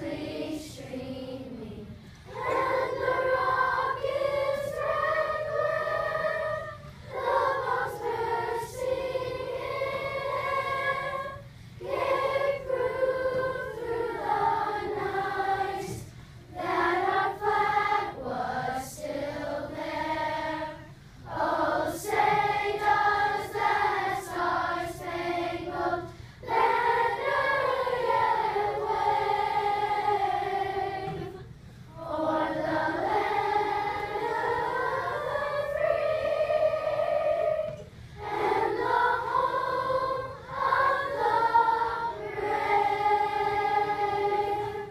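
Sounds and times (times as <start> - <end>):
children's choir singing: 0.0 - 44.9.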